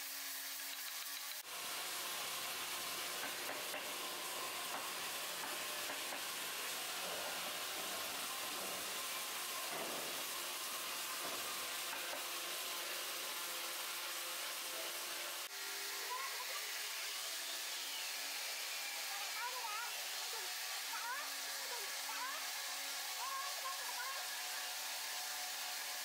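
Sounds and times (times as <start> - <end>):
sanding wood: 0.1 - 26.0.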